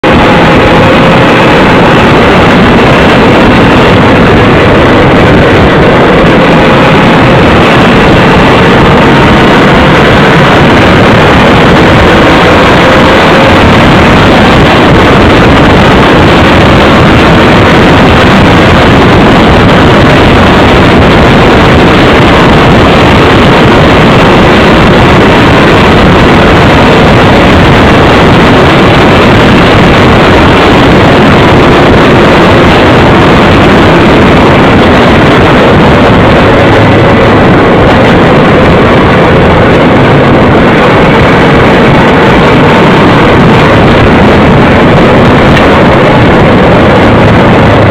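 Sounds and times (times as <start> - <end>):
motorcycle engine droning: 0.0 - 47.9
wind buffeting microphone: 0.0 - 47.9.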